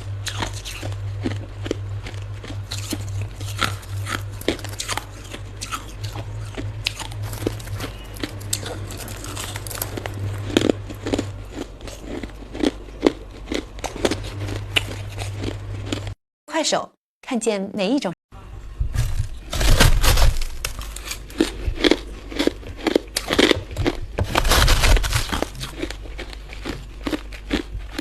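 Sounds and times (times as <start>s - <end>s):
steady low hum: 0.0s - 16.2s, 17.4s - 28.0s
ice crunching being chewed: 0.2s - 16.2s, 19.0s - 28.0s.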